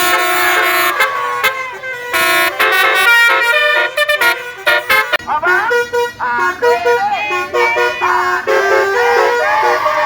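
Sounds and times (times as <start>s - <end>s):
multi-tone horns playing melody: 0.0s - 10.0s.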